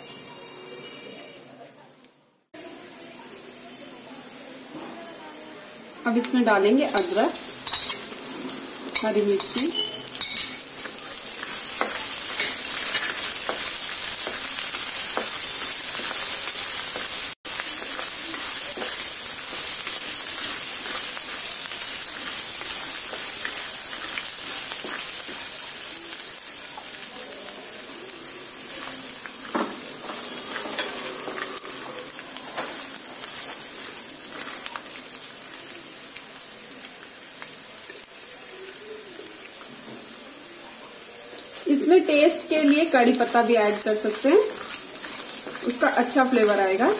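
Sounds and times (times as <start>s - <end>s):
food sizzling in hot oil: 2.6s - 46.9s.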